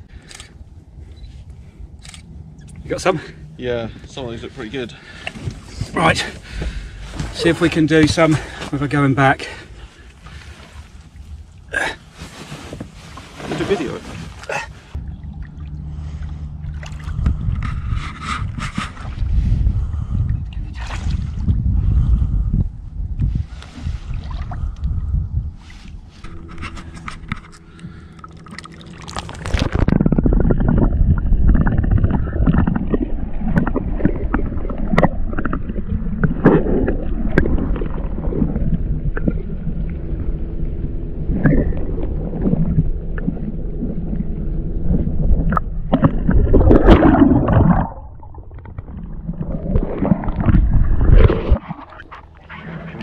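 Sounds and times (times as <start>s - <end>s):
underwater gurgling and sloshing: 0.0s - 53.0s.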